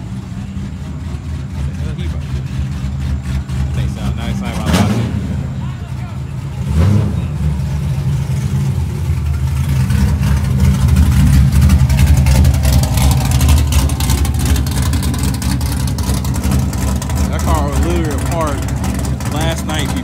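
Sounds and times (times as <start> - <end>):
car engine idling unevenly: 0.0 - 20.0.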